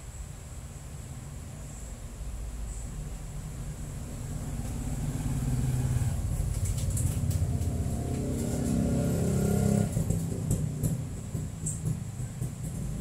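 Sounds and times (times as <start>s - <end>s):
vehicle engine running: 2.2s - 13.0s.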